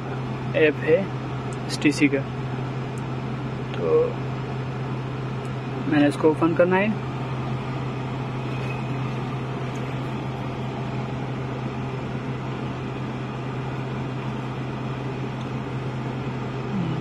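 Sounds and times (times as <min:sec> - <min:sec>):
air-conditioning fan rush: 0:00.0 - 0:17.0
car engine hum: 0:00.0 - 0:17.0.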